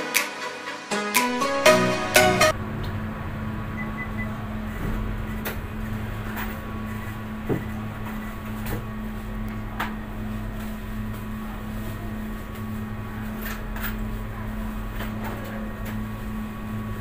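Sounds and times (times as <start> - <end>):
low machine hum: 1.7 - 17.0.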